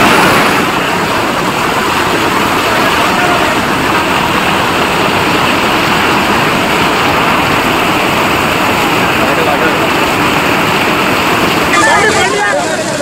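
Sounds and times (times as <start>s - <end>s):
floodwater rushing over road: 0.0s - 13.0s.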